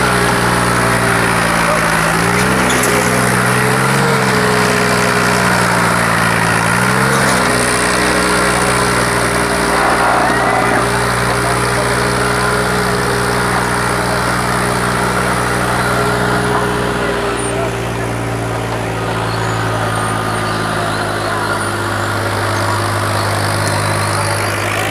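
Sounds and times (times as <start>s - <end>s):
tractor diesel engine labouring: 0.0s - 24.9s.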